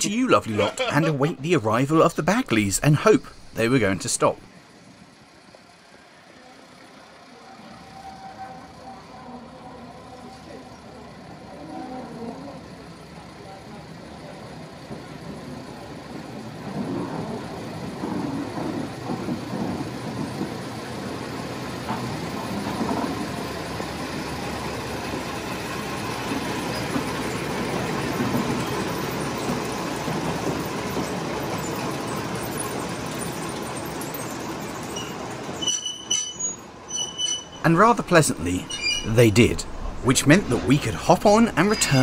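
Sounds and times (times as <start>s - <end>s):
diesel locomotive engine rumble: 0.0s - 42.0s.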